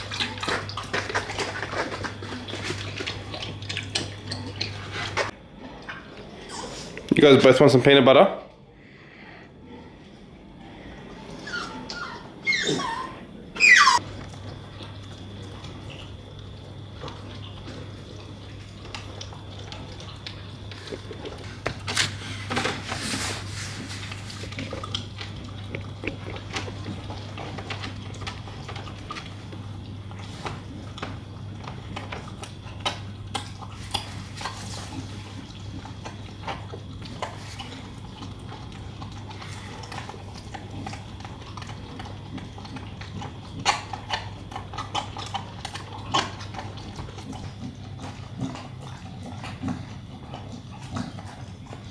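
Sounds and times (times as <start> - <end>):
dog licking and chewing: 0.0 - 6.4, 13.7 - 51.9.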